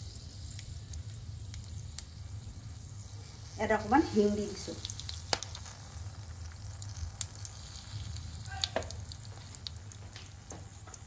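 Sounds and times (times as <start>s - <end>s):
sharp pops and crackles: 0.0s - 2.9s, 4.2s - 11.0s
spices sizzling in oil: 0.0s - 11.0s.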